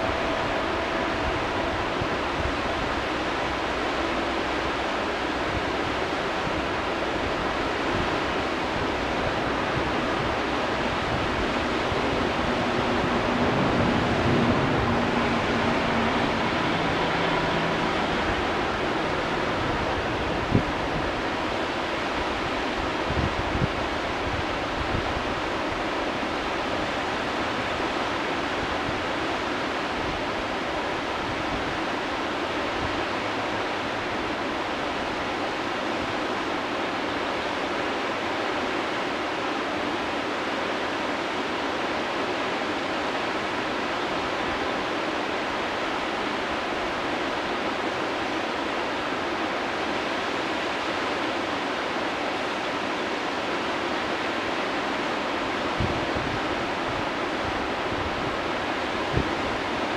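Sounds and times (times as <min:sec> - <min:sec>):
whitewater rapids roaring: 0:00.0 - 0:59.9.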